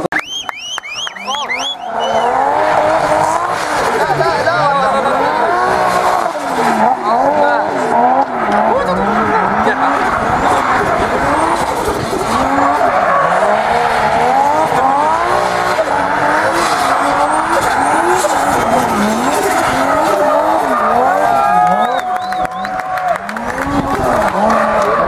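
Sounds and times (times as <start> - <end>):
car engine revving: 0.1 - 25.0
tyres screeching: 0.6 - 22.4.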